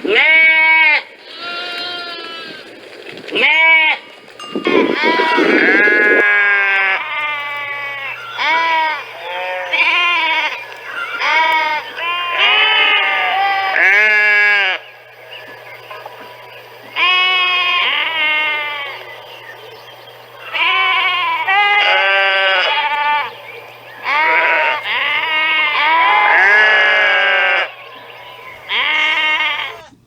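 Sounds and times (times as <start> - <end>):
sheep bleating: 0.0 - 2.7, 3.4 - 15.5, 16.9 - 19.2, 20.4 - 30.0.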